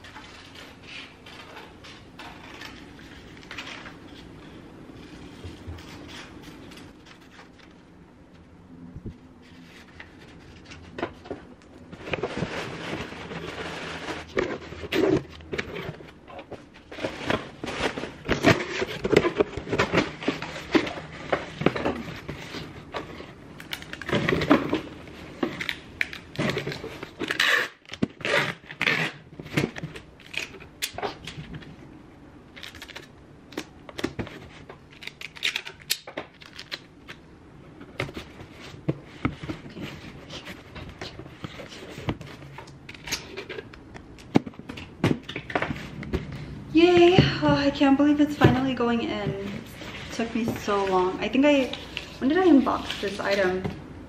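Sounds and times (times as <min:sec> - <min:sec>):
cardboard rustling and crinkling: 0:09.1 - 0:31.8, 0:32.5 - 0:53.8.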